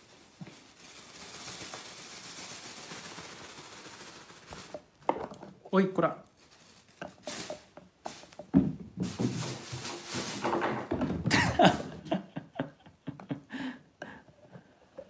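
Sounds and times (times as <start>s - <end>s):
kitten rustling and scuffling: 0.0s - 12.2s.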